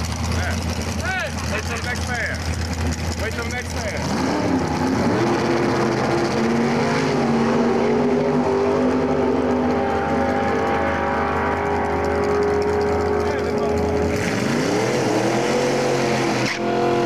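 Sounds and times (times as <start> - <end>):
dragster engine running loudly: 0.0 - 17.0.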